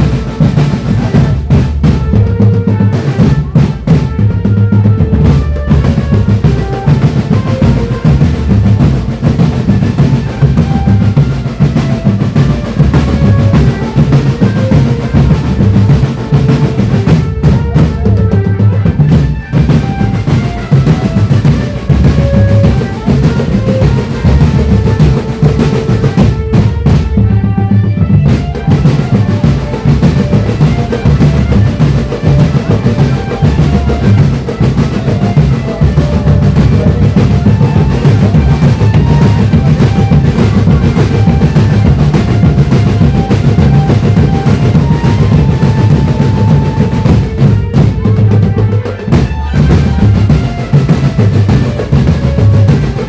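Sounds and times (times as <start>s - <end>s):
bass and snare drums beating: 0.0s - 53.0s
marching band melody: 0.0s - 53.0s.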